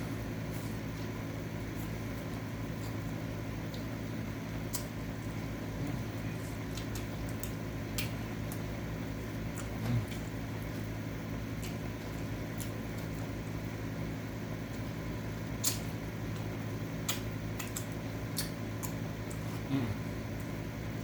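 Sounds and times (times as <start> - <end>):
air conditioning fan humming: 0.0 - 21.0.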